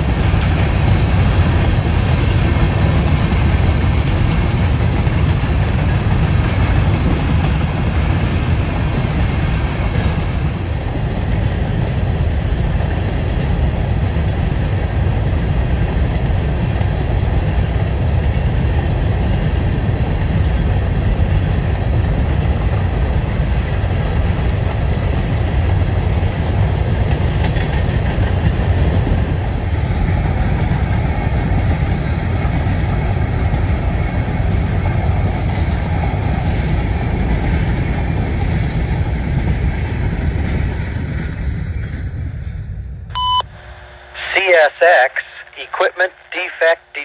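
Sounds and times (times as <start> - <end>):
freight train wheels rumbling on rails: 0.0 - 43.1.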